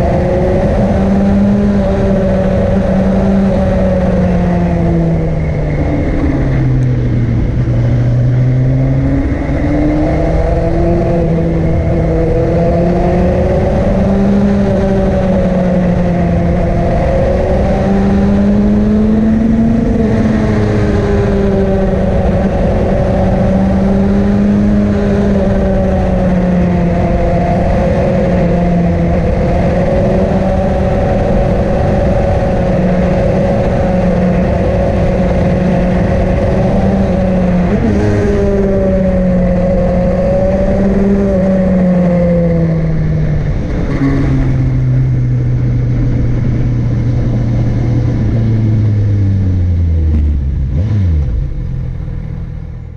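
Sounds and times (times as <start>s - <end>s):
road noise: 0.0s - 52.9s
rushing wind: 0.0s - 52.9s
vehicle engine under load: 0.0s - 52.9s.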